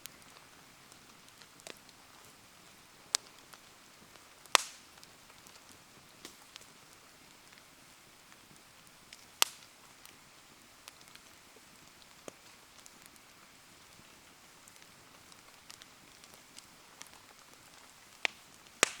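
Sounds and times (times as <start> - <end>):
sharp fire pops: 0.0 - 10.2, 10.8 - 19.0
bonfire crackling: 0.0 - 19.0
falling rain hiss: 0.0 - 19.0.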